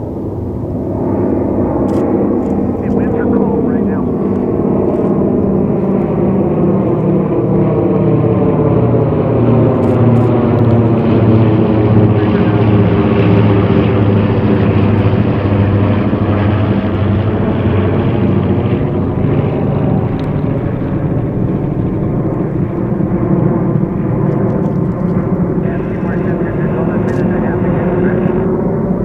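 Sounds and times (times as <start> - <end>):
piston aircraft engines droning: 0.0 - 29.0.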